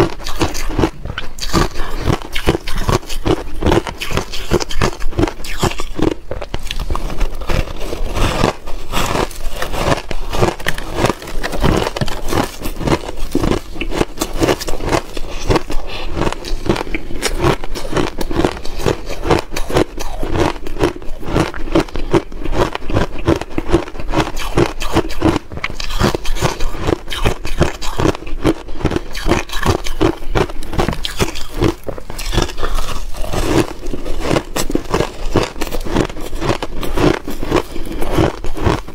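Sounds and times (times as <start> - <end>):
chewing and crunching ice: 0.0 - 38.9.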